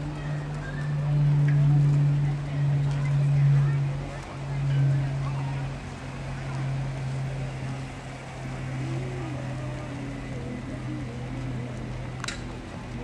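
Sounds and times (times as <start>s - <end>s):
faint voices: 0.0s - 13.0s
low engine hum: 0.0s - 13.0s
traffic noise: 0.0s - 13.0s.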